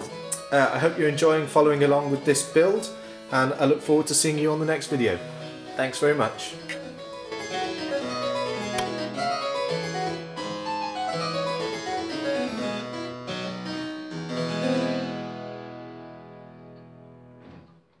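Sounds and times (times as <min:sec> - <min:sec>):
harpsichord piece: 0:00.0 - 0:17.2.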